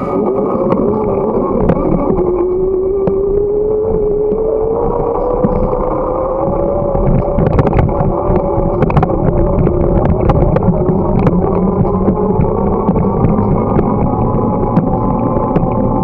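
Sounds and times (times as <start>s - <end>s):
bicycle ride rumble: 0.0s - 16.0s
steady rising whine: 0.0s - 16.0s.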